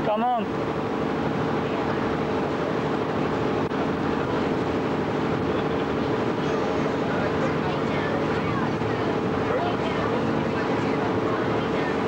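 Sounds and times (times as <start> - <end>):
boat engine running: 0.0 - 12.0
wash of noise: 0.0 - 12.0.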